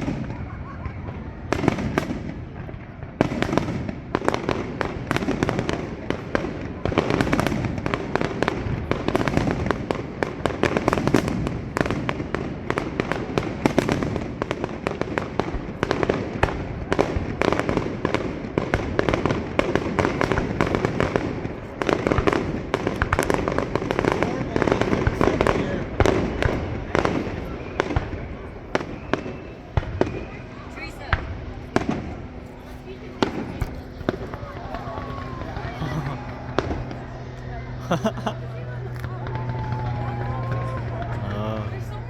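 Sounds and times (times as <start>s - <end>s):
fireworks bursting and crackling: 0.0s - 42.0s.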